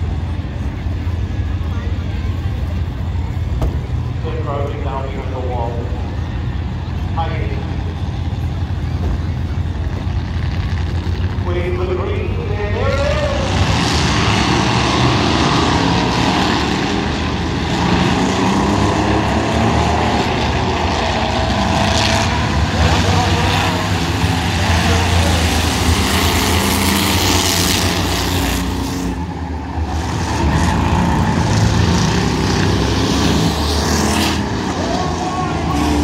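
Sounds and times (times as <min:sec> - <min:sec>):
pickup truck engines racing: 0:00.0 - 0:36.0.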